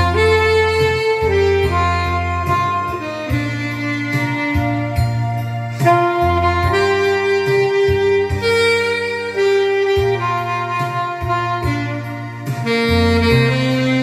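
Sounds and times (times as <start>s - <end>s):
recorded backing accompaniment: 0.0s - 14.0s
saxophone slow melody: 0.0s - 14.0s.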